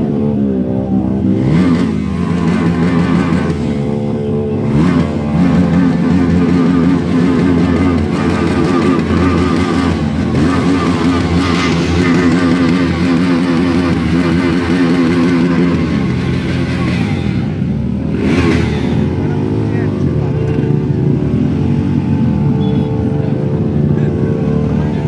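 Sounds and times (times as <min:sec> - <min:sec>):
motorcycle engines droning: 0:00.0 - 0:25.0.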